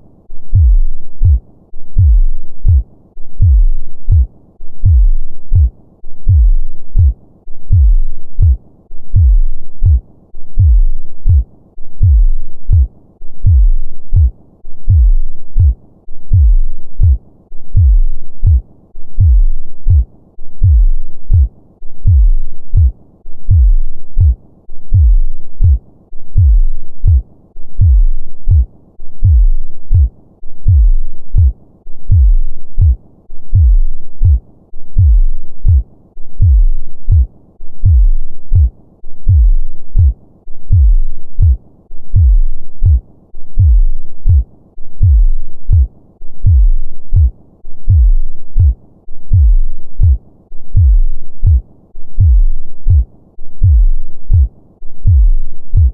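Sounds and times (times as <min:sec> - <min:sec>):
heartbeat double thumps: 0:00.5 - 0:27.2, 0:27.8 - 0:55.9.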